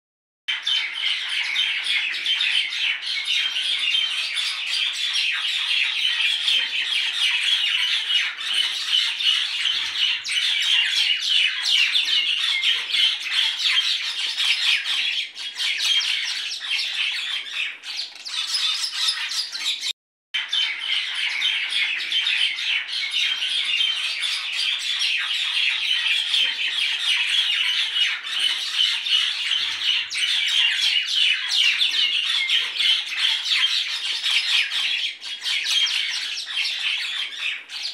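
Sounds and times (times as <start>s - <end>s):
birds chattering and squawking: 0.5s - 37.9s.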